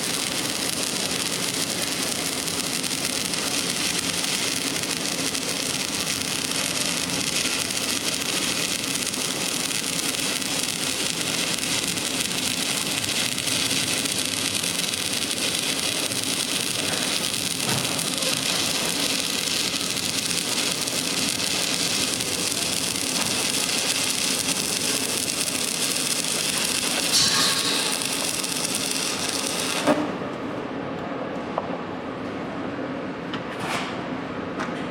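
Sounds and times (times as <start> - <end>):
welding arc hissing: 0.0 - 30.0.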